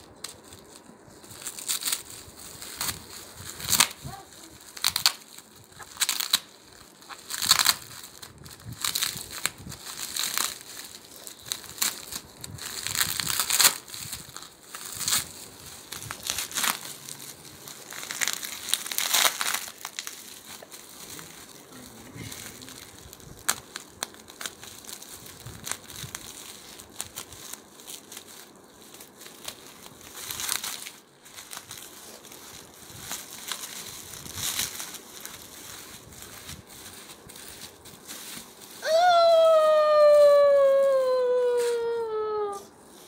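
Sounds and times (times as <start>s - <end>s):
bubble wrap crinkling: 0.0s - 43.0s.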